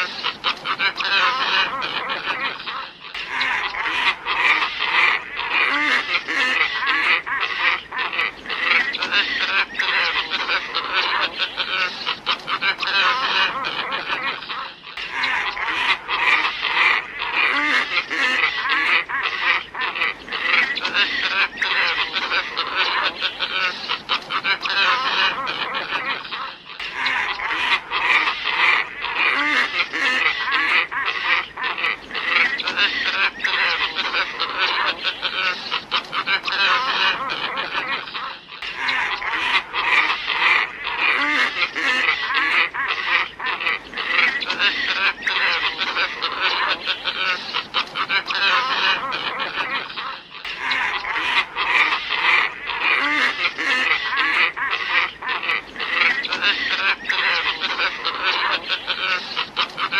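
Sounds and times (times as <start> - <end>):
flock of birds croaking and honking: 0.0 - 59.9.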